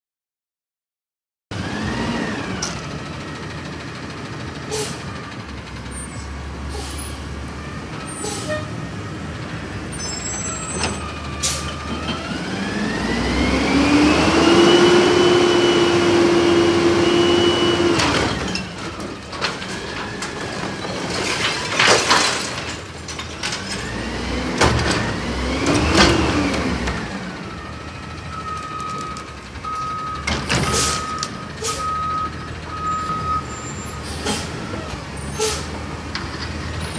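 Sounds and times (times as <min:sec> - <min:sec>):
garbage truck engine revving: 0:01.5 - 0:36.9.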